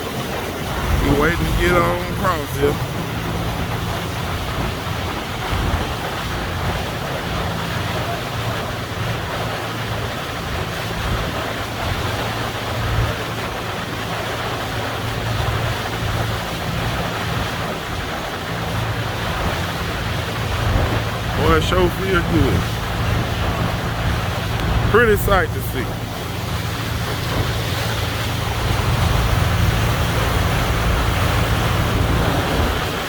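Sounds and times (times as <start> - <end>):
wind buffeting microphone: 0.0 - 21.4, 25.8 - 33.0
boat engine drone: 0.0 - 33.0
rushing water: 0.0 - 33.0.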